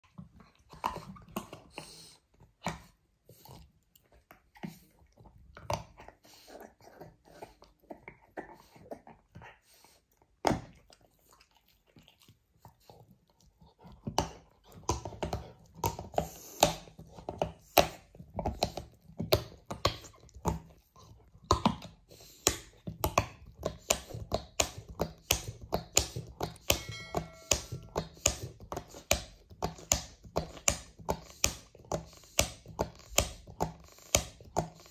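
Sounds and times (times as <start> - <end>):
dog gnawing chew toy: 0.0 - 34.9.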